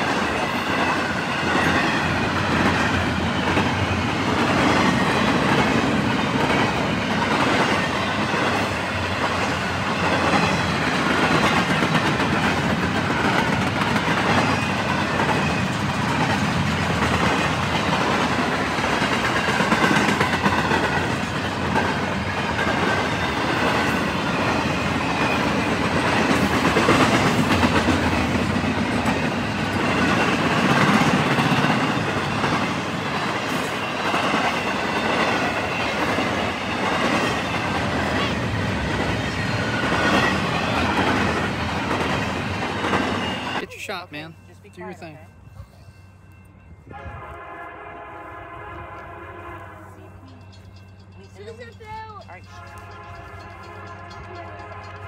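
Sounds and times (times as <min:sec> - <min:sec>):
wheels clacking over rail joints: 0:00.0 - 0:43.6, 0:50.2 - 0:55.0
steel wheels rumbling on rail: 0:00.0 - 0:43.7, 0:45.3 - 0:55.0.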